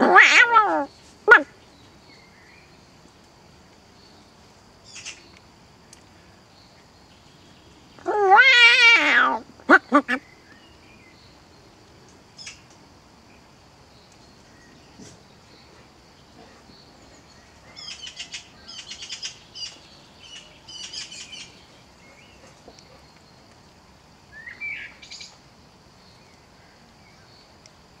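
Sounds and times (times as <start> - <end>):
songbird chirping and twittering: 0.7 - 8.2, 9.8 - 28.0.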